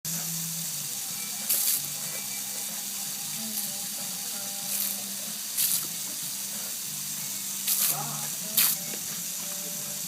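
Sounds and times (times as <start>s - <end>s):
water spraying from hose: 0.1s - 10.0s.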